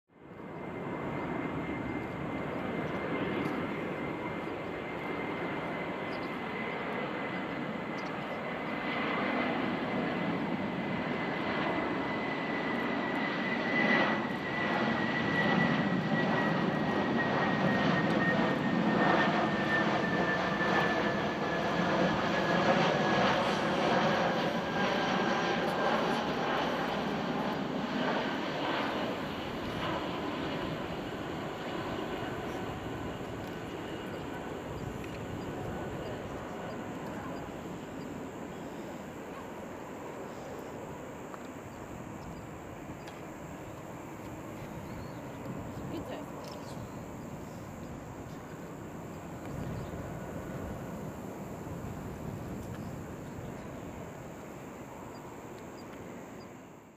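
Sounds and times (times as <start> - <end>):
high jet engine whine: 0.1 - 56.9
jet engines rumbling: 0.1 - 56.9.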